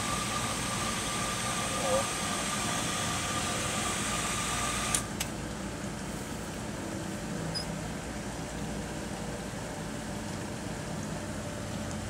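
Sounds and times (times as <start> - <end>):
well pump humming: 0.0 - 12.0.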